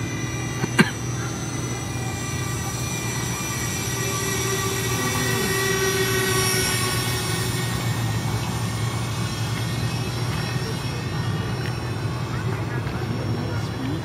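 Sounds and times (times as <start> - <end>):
low rumble: 0.0 - 14.0
model airplane motor whine: 0.0 - 14.0.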